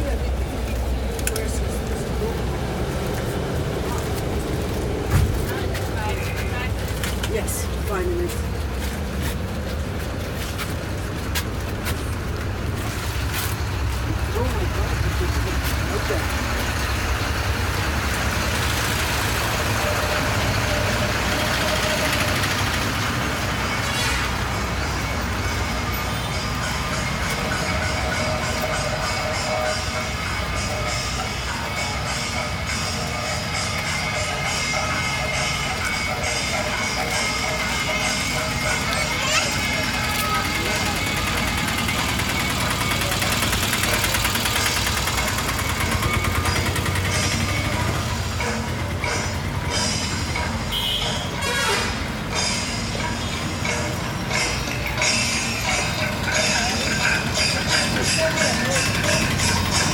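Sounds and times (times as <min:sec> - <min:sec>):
vehicle engines rumbling: 0:00.0 - 0:59.9.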